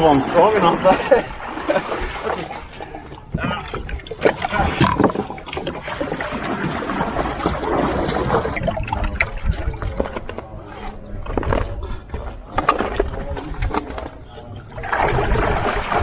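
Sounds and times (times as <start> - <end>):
water sloshing and trickling: 0.0 - 16.0.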